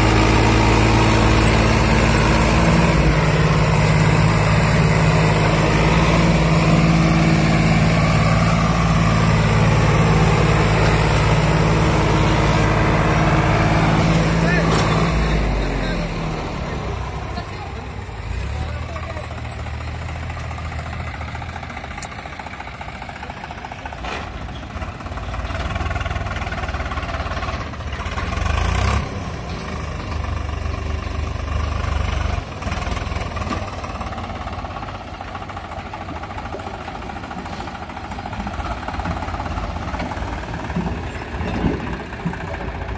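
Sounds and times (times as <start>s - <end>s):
tractor engine under heavy load: 0.0s - 42.9s.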